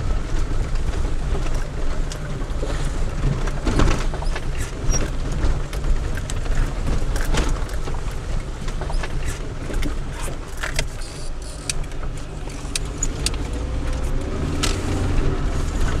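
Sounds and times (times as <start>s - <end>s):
car engine and road rumble: 0.0s - 16.0s
body and loose items rattling: 0.2s - 16.0s.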